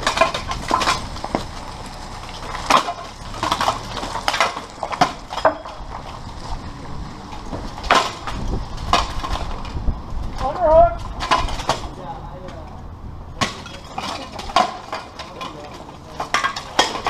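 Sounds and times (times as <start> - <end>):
metal armour clanking: 0.0 - 9.8, 10.4 - 12.8, 13.4 - 17.0.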